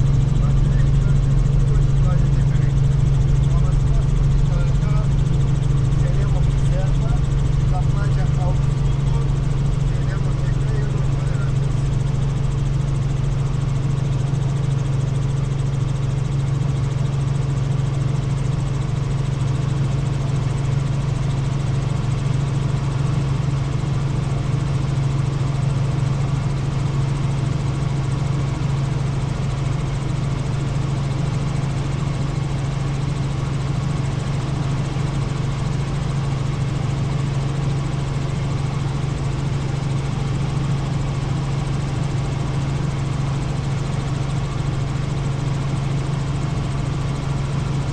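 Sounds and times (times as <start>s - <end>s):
helicopter rotor and engine drone: 0.0s - 47.9s.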